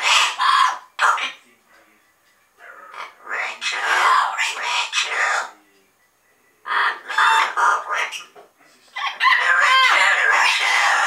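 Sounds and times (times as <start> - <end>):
parrots calling and chattering: 0.0 - 1.6, 2.5 - 5.6, 6.6 - 11.0.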